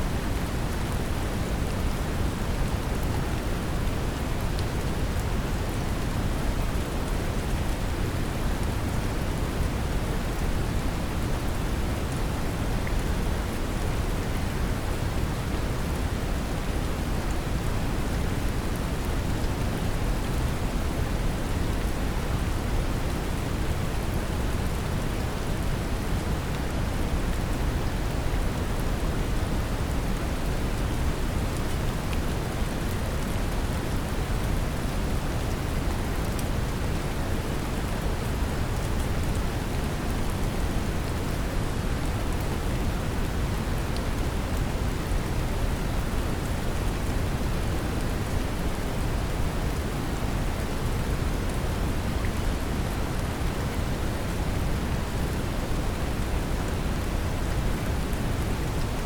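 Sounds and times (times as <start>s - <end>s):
brown noise rumbling hiss: 0.0s - 59.0s
rain pattering: 0.1s - 59.0s.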